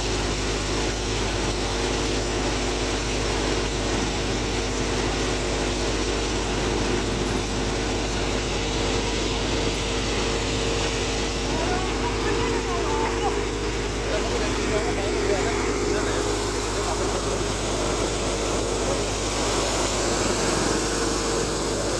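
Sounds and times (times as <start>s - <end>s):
grain thresher running: 0.0s - 21.9s.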